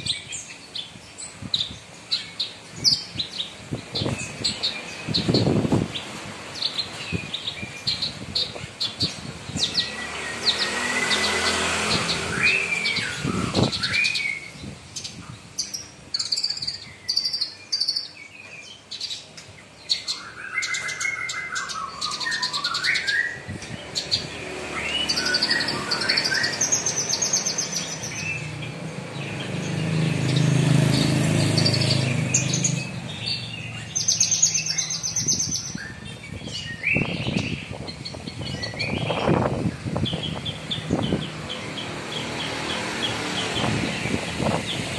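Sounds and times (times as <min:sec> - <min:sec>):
bird singing whistles and trills: 0:06.6 - 0:44.8.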